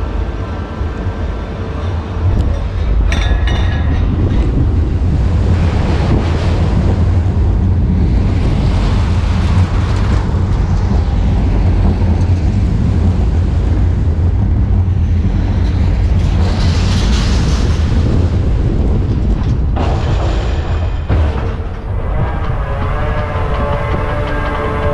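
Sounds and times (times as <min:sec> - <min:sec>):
roller coaster wheels rumbling on track: 0:00.0 - 0:24.9
wind buffeting microphone: 0:00.0 - 0:24.9.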